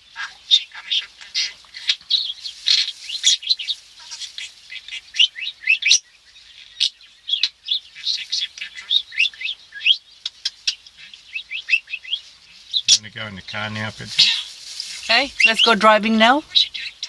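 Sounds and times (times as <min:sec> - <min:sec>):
budgerigar chattering and warbling: 0:00.0 - 0:06.0, 0:06.8 - 0:17.0.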